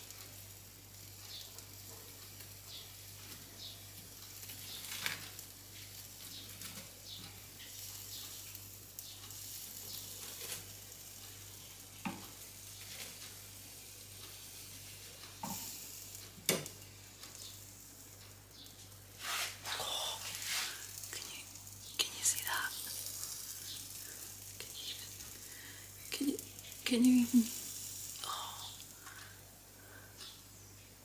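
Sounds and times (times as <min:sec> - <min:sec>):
pot bubbling and hissing: 0:00.0 - 0:31.0.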